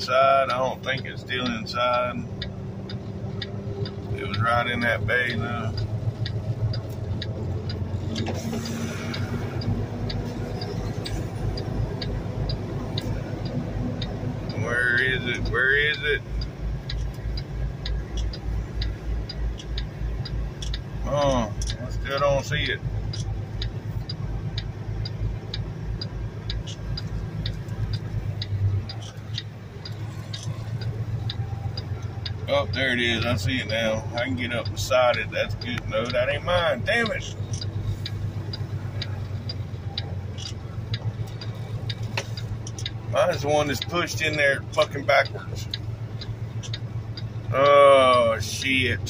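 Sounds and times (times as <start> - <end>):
diesel truck engine running: 0.0 - 49.0
steady ticking: 0.0 - 49.0.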